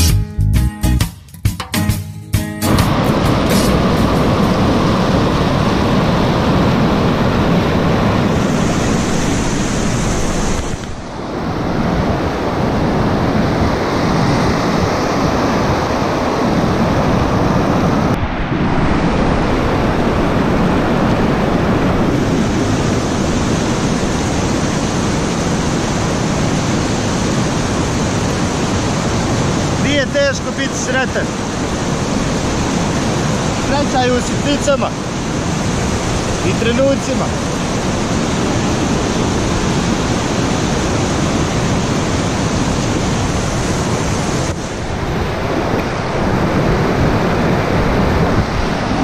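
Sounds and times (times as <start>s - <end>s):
whitewater rapids rushing: 2.7s - 49.0s.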